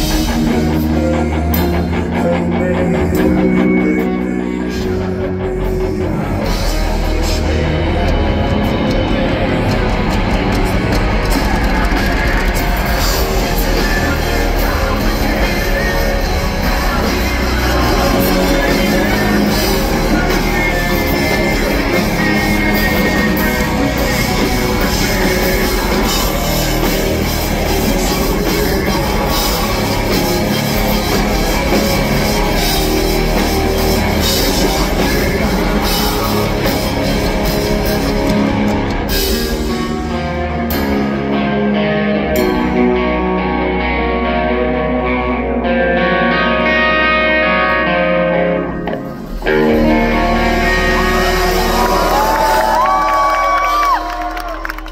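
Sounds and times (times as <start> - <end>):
live rock band: 0.0 - 54.9
person singing: 0.0 - 54.9.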